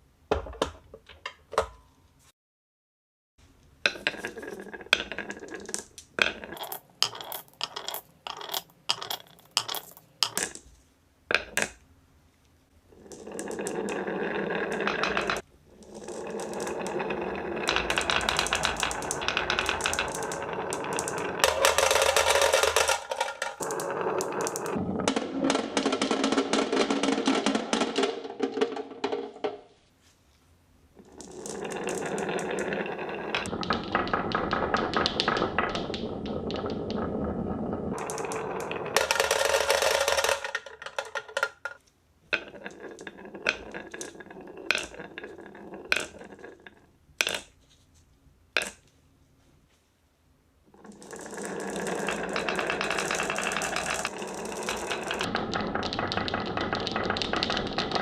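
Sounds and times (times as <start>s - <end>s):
marbles rolling and clattering on tracks: 3.8s - 10.7s, 12.9s - 29.7s, 31.0s - 47.6s, 48.6s - 48.8s, 50.7s - 58.0s.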